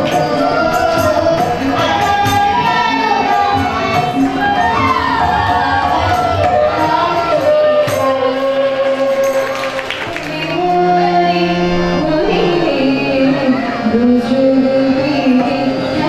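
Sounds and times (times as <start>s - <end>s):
harmonium reed notes: 0.0s - 16.0s
woman singing: 0.0s - 16.0s.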